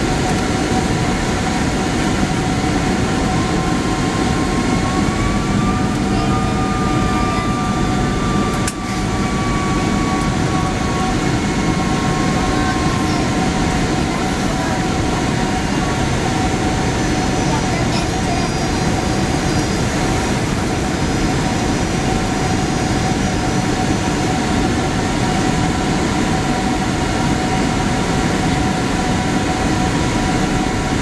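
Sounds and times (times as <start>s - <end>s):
airplane cabin roar: 0.0s - 31.0s
jet engine whine: 0.0s - 31.0s.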